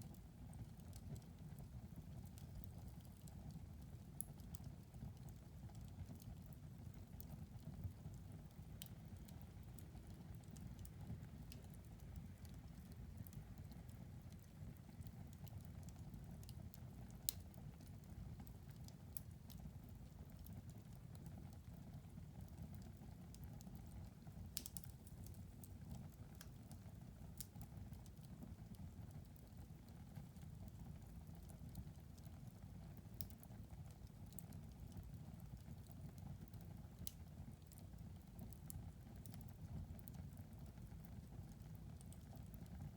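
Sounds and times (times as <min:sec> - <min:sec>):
fire crackling and popping: 0:00.1 - 0:42.9.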